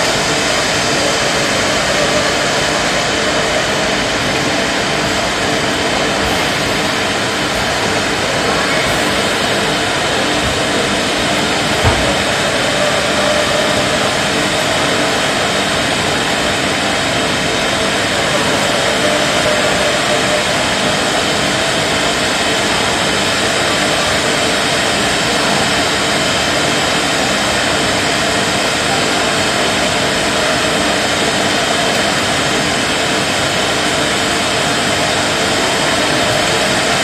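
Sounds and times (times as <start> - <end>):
machinery whirring: 0.0 - 37.0.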